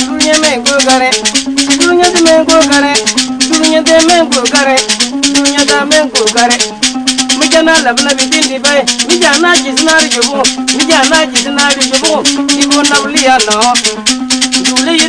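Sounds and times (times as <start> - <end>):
bowed fiddle melody: 0.0 - 15.0
shaken rattle: 0.0 - 15.0.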